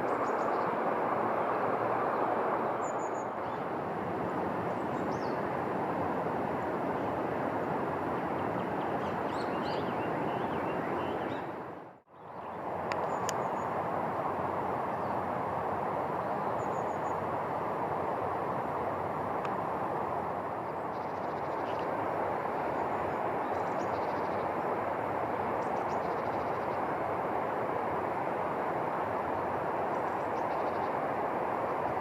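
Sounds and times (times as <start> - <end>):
steady outdoor rushing noise: 0.0 - 32.0.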